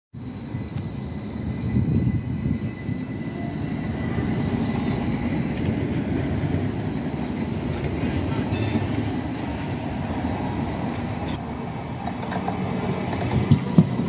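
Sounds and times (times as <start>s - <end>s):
tram wheels rumbling on rail: 0.1s - 14.0s.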